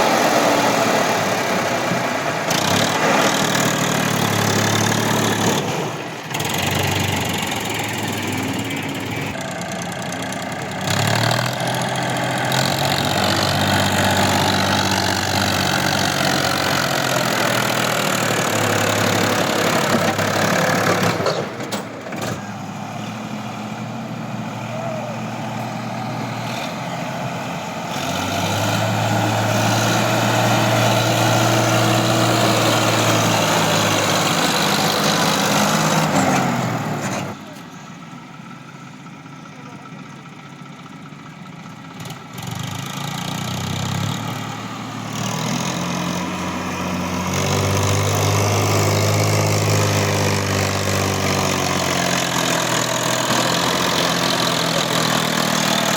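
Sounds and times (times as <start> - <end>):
diesel tractor engine: 0.0 - 55.9.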